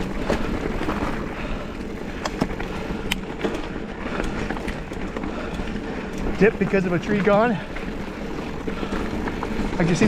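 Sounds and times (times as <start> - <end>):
bike clicks and rattles: 0.0 - 10.0
bike tyre rumble on dirt: 0.0 - 10.0.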